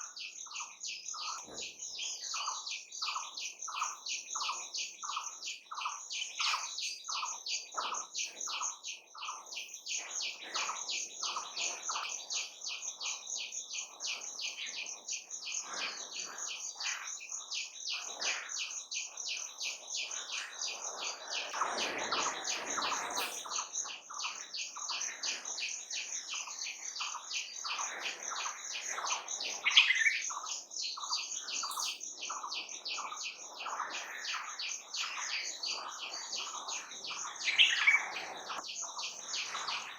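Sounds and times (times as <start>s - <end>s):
birds chirping: 0.0s - 39.9s
lower bird calls: 0.0s - 39.9s.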